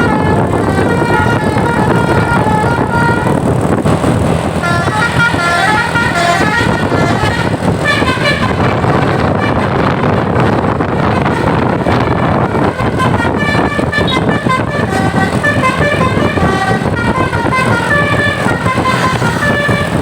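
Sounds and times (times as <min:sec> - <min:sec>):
bus engines: 0:00.0 - 0:20.0
musical bus horns: 0:00.0 - 0:20.0.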